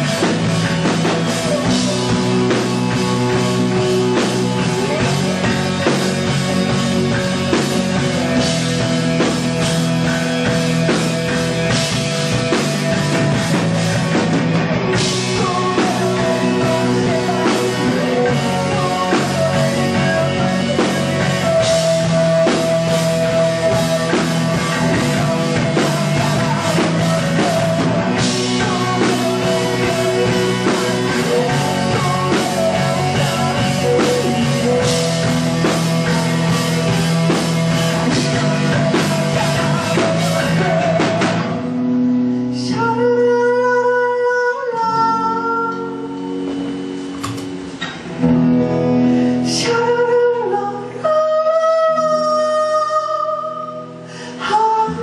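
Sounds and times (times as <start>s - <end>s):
drum kit: 0.0s - 43.0s, 45.7s - 51.0s
person singing: 0.0s - 46.5s, 48.6s - 55.0s
guitars: 0.0s - 55.0s.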